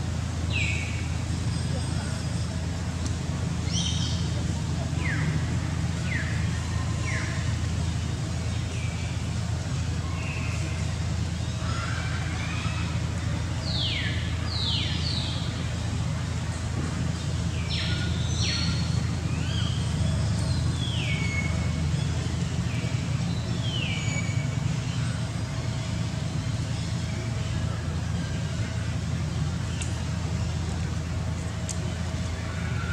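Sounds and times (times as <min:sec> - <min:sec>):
steady low rumble: 0:00.0 - 0:32.9.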